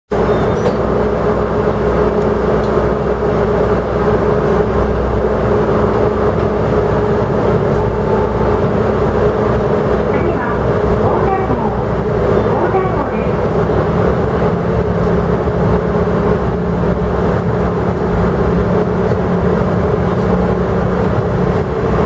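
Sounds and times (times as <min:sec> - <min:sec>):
diesel railcar engine drone: 0:00.1 - 0:22.0.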